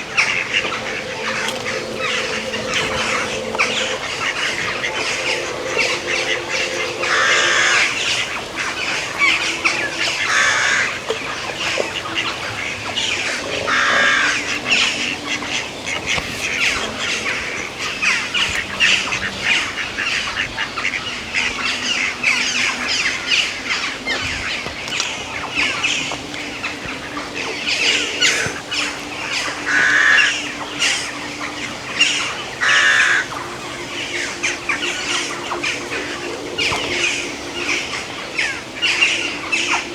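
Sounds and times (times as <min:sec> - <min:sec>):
bird chorus: 0:00.0 - 0:39.9.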